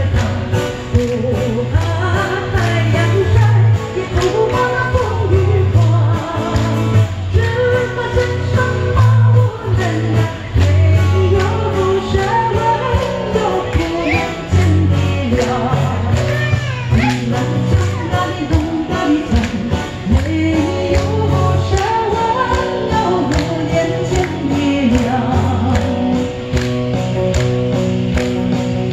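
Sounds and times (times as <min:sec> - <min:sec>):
woman singing into a microphone: 0:00.0 - 0:26.6.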